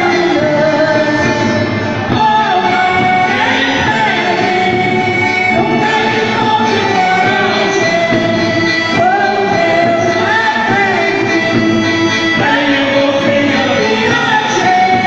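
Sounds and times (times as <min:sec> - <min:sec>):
instrumental accompaniment: 0:00.0 - 0:15.0
people singing: 0:00.0 - 0:15.0.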